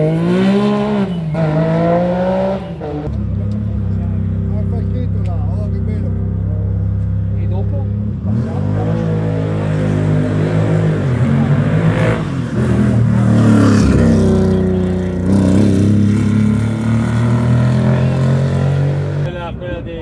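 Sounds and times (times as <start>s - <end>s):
rally car engine revving: 0.0s - 19.4s.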